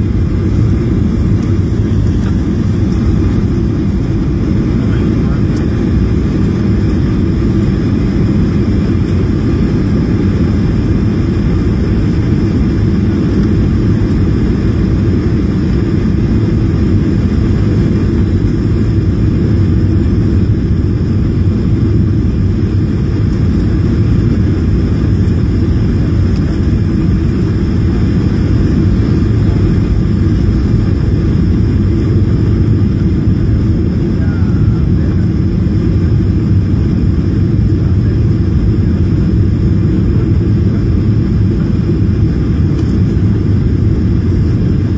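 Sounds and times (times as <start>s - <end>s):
airliner cabin engine rumble: 0.0s - 44.9s.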